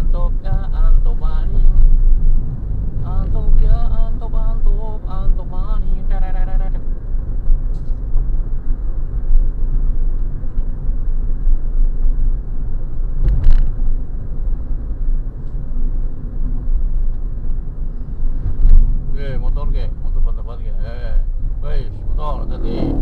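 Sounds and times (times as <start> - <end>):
car engine rumble: 0.0 - 23.0
road noise: 0.0 - 23.0.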